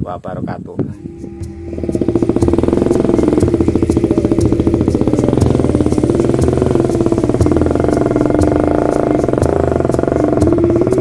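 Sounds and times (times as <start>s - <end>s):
small motorcycle engine running: 1.0s - 11.0s.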